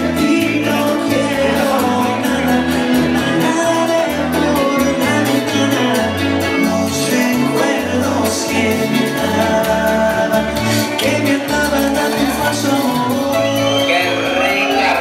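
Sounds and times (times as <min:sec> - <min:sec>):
salsa music with singer: 0:00.0 - 0:15.0.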